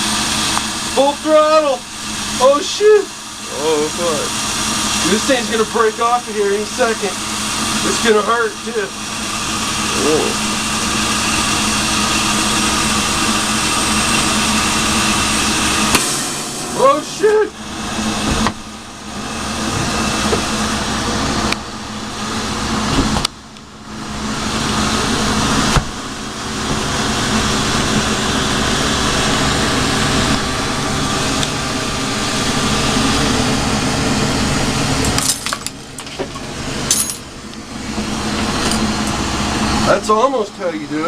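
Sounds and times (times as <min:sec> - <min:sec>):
torch flame rushing: 0:00.0 - 0:35.2.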